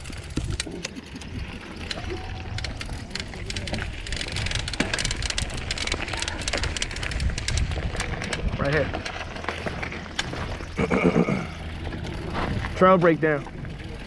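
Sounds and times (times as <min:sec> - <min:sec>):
bike rattling: 0:00.0 - 0:14.0
low rumble: 0:00.0 - 0:14.0
tyres crunching on dirt: 0:00.0 - 0:14.0.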